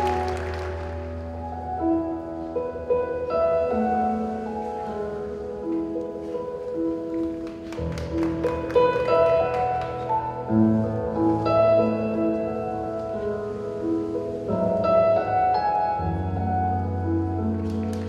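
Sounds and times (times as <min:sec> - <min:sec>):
piano music over sound system: 0:00.0 - 0:18.0.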